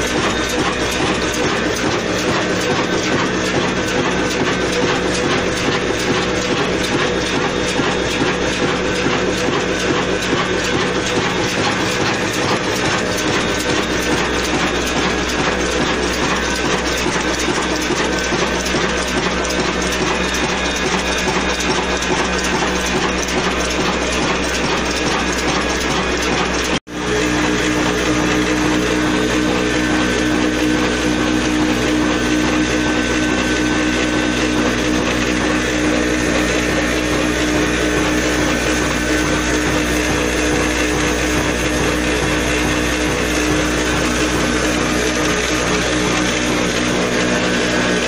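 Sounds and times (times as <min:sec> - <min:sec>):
diesel engine clattering: 0:00.0 - 0:48.0.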